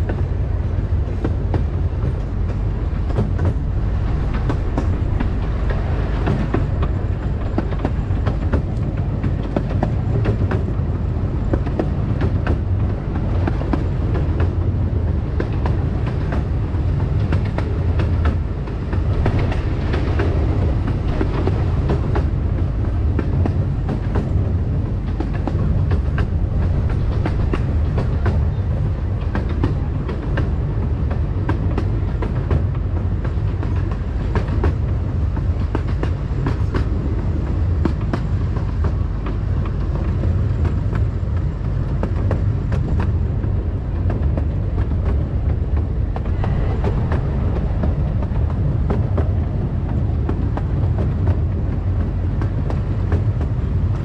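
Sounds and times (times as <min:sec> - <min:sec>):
miniature train rumbling: 0:00.0 - 0:54.0.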